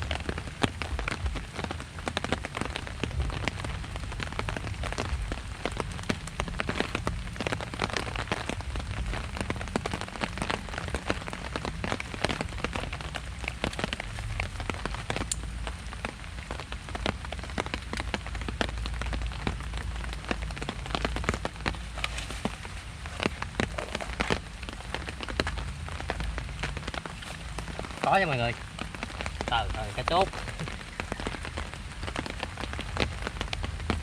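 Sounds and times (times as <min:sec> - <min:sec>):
heavy rain falling: 0:00.0 - 0:34.0
raindrops ticking close by: 0:00.0 - 0:34.0.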